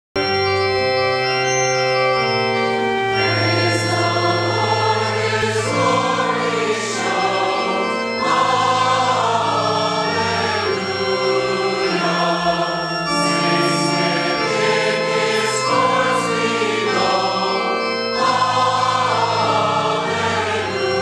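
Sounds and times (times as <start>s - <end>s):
church organ chords: 0.2s - 21.0s
choir singing: 3.1s - 21.0s.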